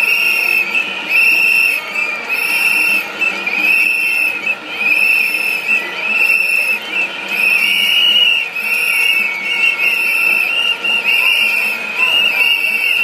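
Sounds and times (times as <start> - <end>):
shrill whistle blasts: 0.0 - 13.0.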